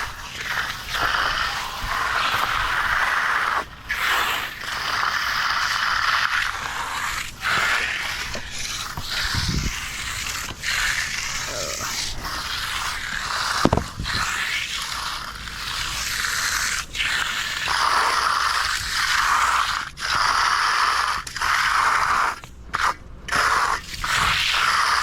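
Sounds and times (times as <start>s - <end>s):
tool scraping through wet concrete: 0.0s - 25.0s.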